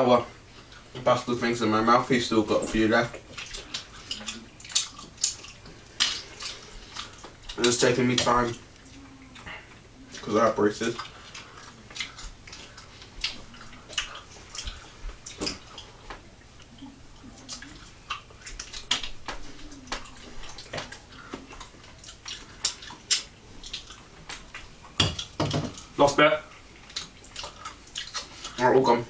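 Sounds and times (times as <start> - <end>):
wet chewing mouth noises: 2.7 - 28.6.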